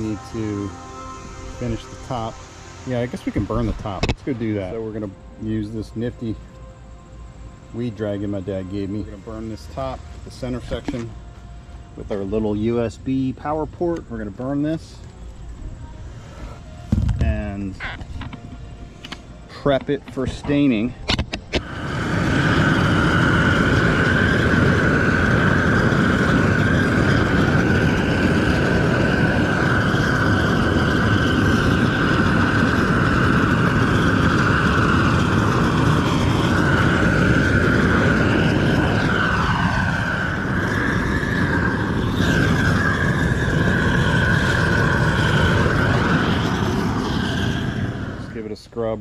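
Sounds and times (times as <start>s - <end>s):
propane torch hissing and whistling: 0.0s - 49.0s.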